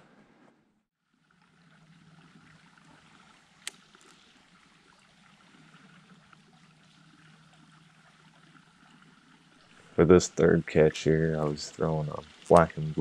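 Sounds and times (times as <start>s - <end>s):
water trickling: 1.0s - 13.0s.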